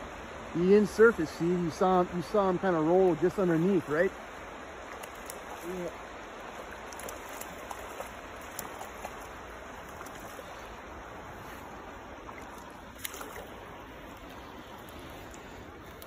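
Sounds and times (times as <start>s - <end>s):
flowing creek water: 0.0s - 16.0s.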